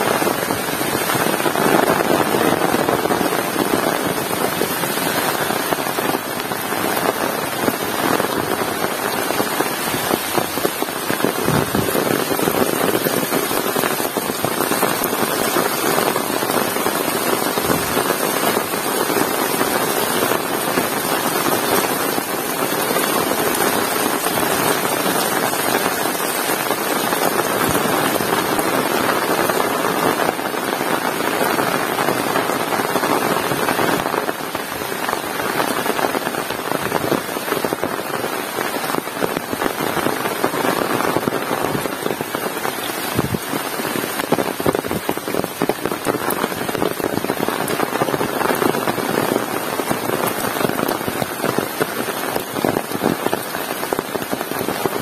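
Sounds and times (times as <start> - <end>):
heavy rain pouring: 0.0 - 55.0
individual raindrops splatting: 0.0 - 55.0.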